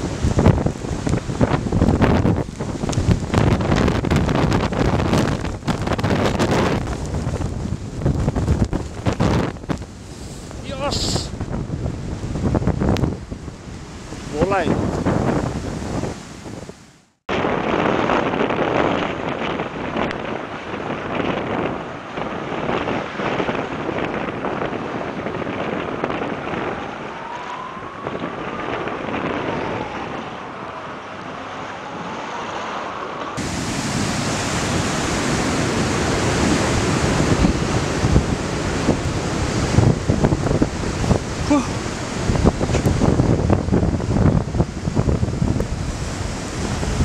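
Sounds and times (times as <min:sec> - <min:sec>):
storm waves breaking: 0:00.0 - 0:47.0
wind buffeting microphone: 0:00.0 - 0:47.0.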